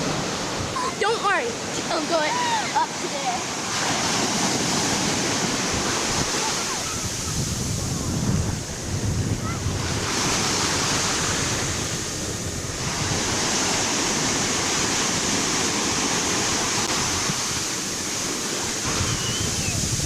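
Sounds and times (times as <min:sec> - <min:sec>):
ocean surf washing ashore: 0:00.0 - 0:20.0
wind buffeting microphone: 0:00.0 - 0:20.0.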